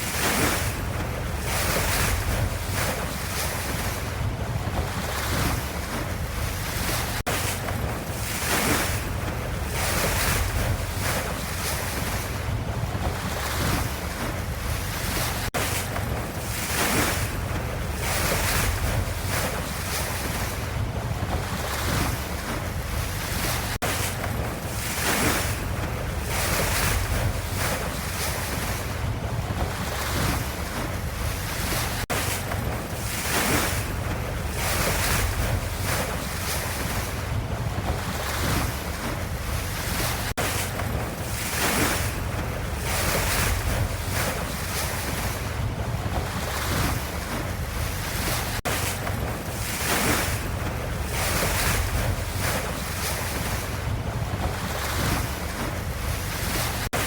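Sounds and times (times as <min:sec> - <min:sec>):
ocean surf washing: 0:00.0 - 0:57.0.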